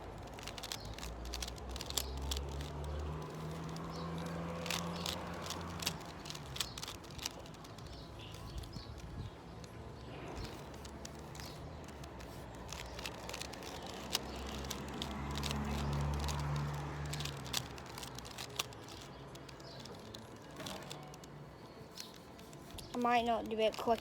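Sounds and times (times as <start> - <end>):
rubik's cube clicking: 0.0 - 24.0.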